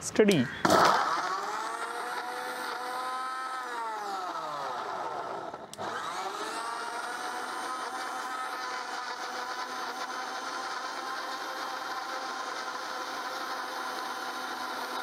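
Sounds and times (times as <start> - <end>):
blender click: 0.6 - 15.0
blender motor whine: 0.6 - 15.0.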